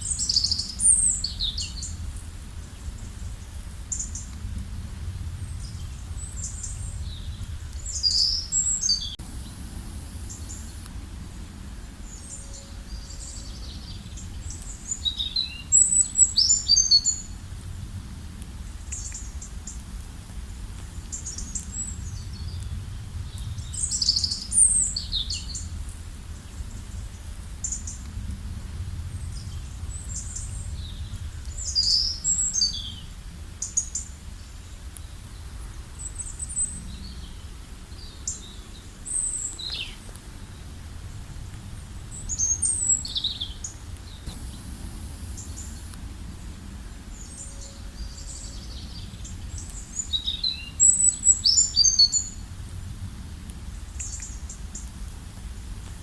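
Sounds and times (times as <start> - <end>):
low background rumble: 0.0 - 33.6, 36.8 - 51.6.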